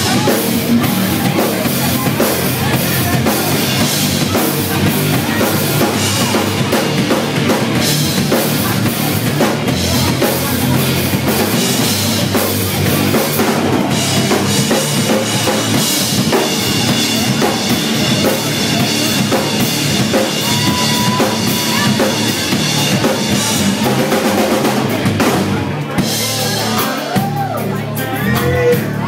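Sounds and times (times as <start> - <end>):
drum kit beat: 0.0 - 29.0
live rock band playing: 0.0 - 29.0.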